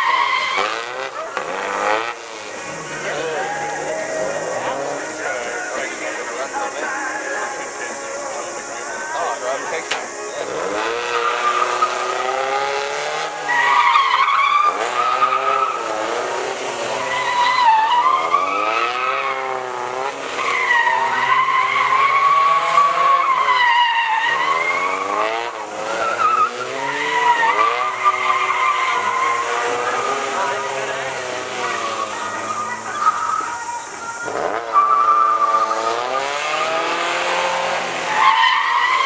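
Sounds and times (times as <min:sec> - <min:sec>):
car engine revving: 0:00.0 - 0:06.8, 0:09.8 - 0:39.0
tyres squealing and skidding: 0:00.0 - 0:08.2, 0:10.3 - 0:39.0.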